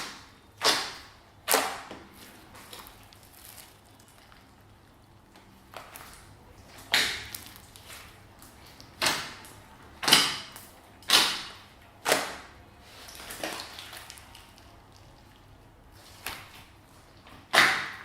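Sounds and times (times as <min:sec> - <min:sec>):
slime squelching: 0:00.0 - 0:18.0.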